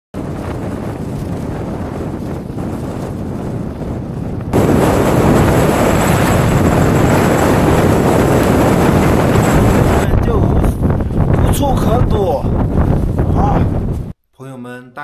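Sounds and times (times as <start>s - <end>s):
strong wind on microphone: 0.1s - 14.2s.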